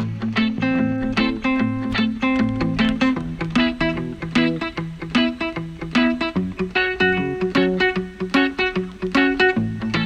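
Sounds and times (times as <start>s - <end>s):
plucked guitar picking notes: 0.0s - 10.0s.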